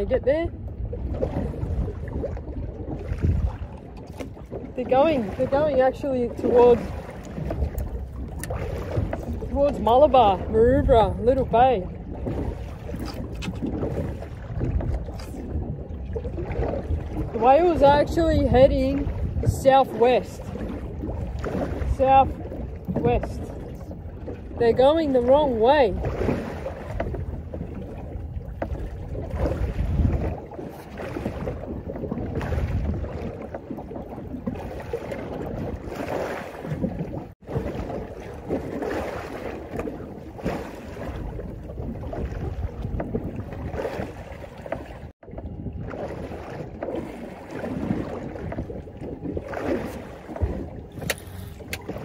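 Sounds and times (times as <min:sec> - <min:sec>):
water slapping boat hull: 0:00.0 - 0:52.0
wind buffeting microphone: 0:00.0 - 0:52.0.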